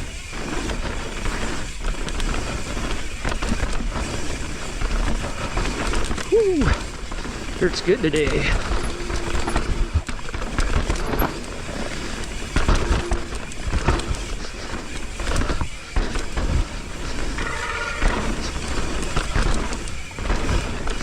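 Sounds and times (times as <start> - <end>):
bike clattering over bumps: 0.0 - 21.0
bike tyres on dirt: 0.0 - 21.0.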